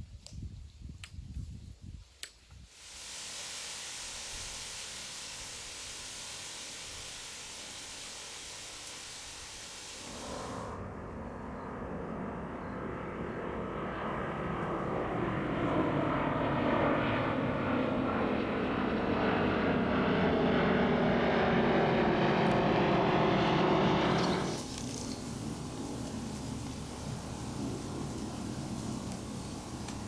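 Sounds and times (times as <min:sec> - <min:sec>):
engine drone: 0:02.9 - 0:16.6, 0:17.2 - 0:30.0.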